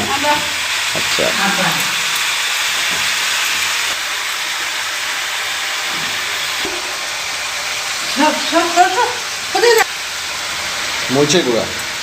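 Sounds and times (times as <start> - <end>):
curry sizzling in a hot pan: 0.0 - 12.0.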